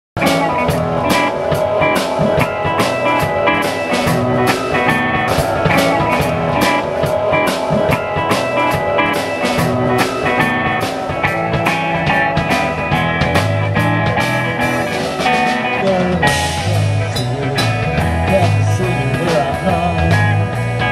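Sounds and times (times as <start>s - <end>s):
drum hits: 0.2s - 17.0s
blues band playing: 0.2s - 20.9s.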